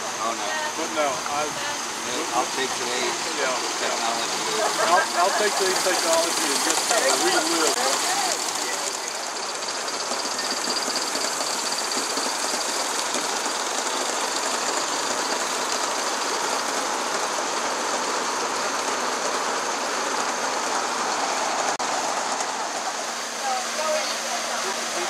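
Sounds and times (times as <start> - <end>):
model steam locomotive running: 0.0 - 25.0.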